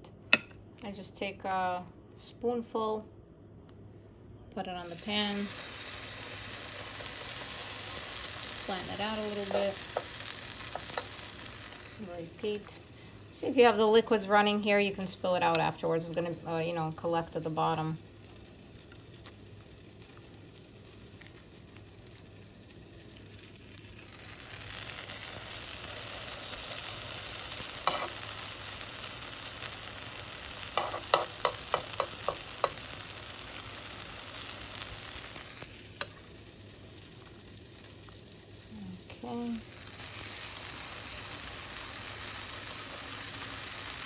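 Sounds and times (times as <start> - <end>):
fritters sizzling in frying pan: 4.7 - 44.0.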